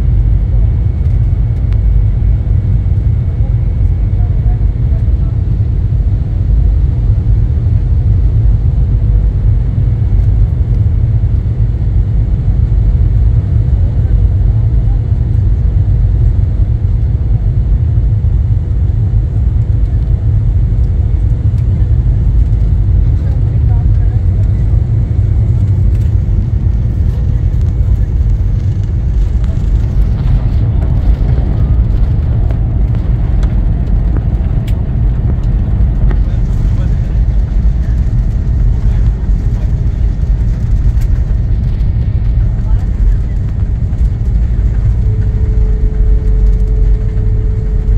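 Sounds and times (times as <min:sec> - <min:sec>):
faint steady hum: 0:00.0 - 0:47.9
jet engine cabin rumble: 0:00.0 - 0:47.9.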